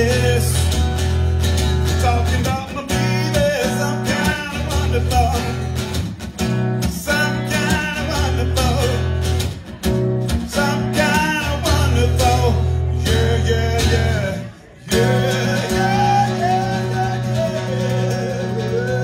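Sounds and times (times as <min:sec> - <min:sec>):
man singing: 0:00.0 - 0:01.0, 0:01.8 - 0:05.8, 0:06.8 - 0:09.3, 0:10.3 - 0:19.0
strummed acoustic guitar: 0:00.0 - 0:19.0.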